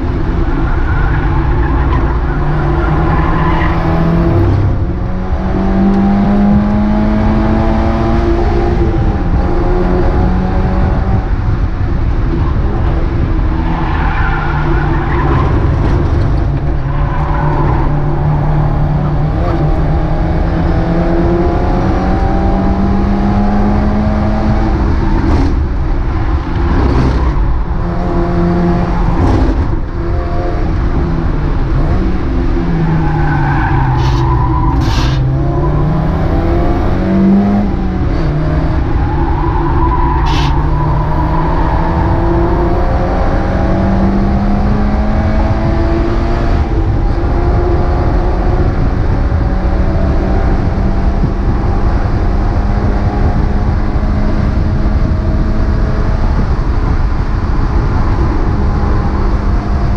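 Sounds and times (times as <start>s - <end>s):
race car engine accelerating: 0.0s - 59.9s
road and wind noise: 0.0s - 59.9s.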